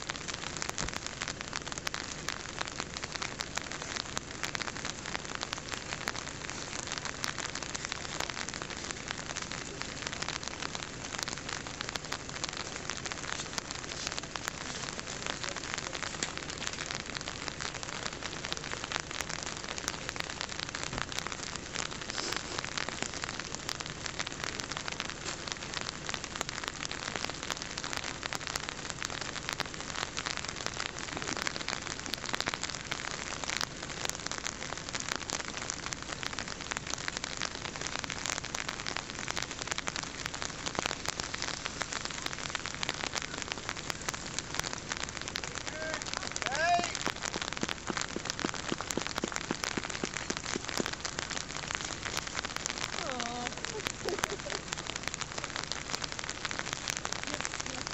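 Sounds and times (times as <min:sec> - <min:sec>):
dense crackling hiss: 0:00.0 - 0:57.9.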